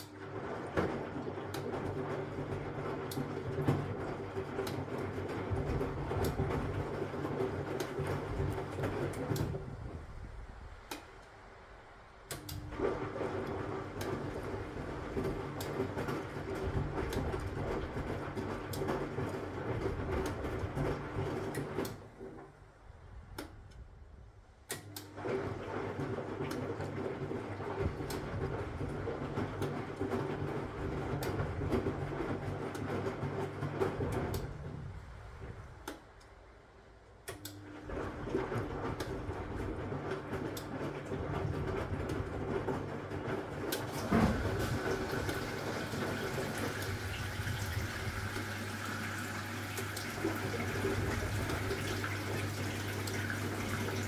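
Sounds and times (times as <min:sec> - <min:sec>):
washing machine drum turning: 0:00.0 - 0:11.5, 0:12.2 - 0:22.6, 0:24.7 - 0:36.2, 0:37.2 - 0:54.0
laundry tumbling: 0:00.2 - 0:10.3, 0:12.7 - 0:22.4, 0:25.2 - 0:35.8, 0:37.8 - 0:54.0.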